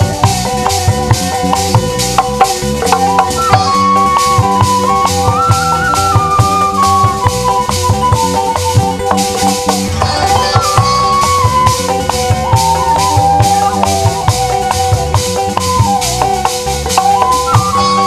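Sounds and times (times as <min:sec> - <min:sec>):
drum strokes: 0:00.0 - 0:18.0
sliding melody line: 0:00.0 - 0:18.0
steady drone: 0:02.6 - 0:18.0.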